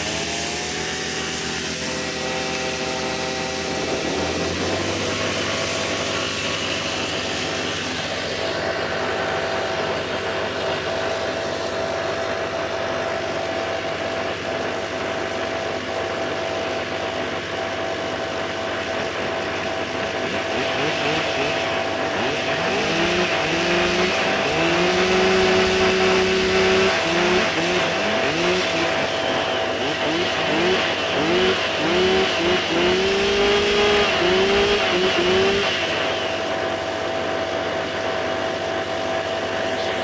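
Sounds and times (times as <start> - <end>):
chainsaw revving: 0.0 - 40.0
two-stroke engines idling: 0.0 - 40.0.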